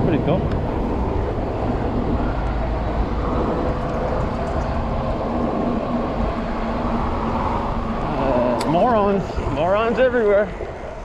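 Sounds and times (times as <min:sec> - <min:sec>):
traffic: 0:00.0 - 0:11.0
wind rumble on microphone: 0:00.0 - 0:11.0.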